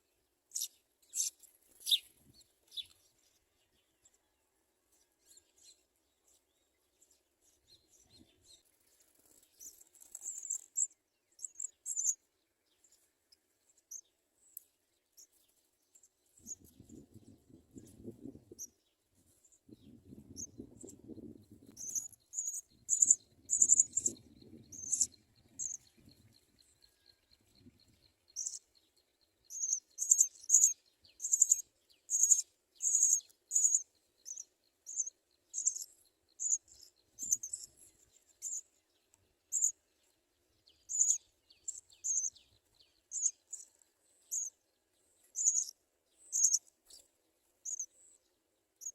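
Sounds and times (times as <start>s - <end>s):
sparrows chirping: 0.0s - 4.3s, 4.9s - 48.9s.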